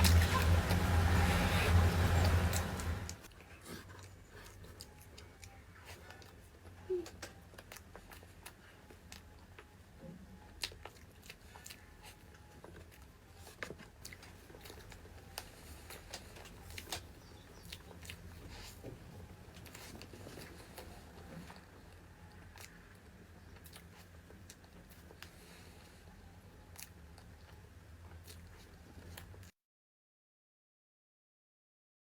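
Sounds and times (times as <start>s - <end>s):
food being chewed: 0.0s - 29.5s.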